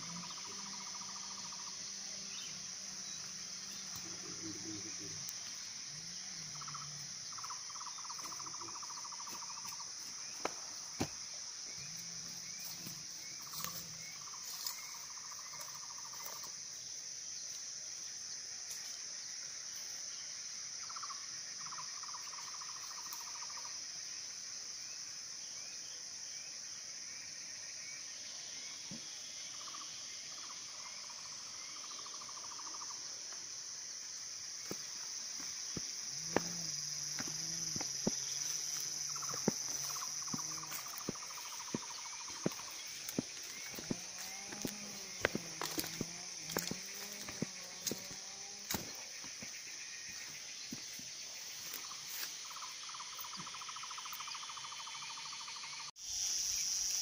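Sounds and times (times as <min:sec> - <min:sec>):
insects buzzing: 0:00.0 - 0:57.0
pulsed insect call: 0:00.0 - 0:57.0.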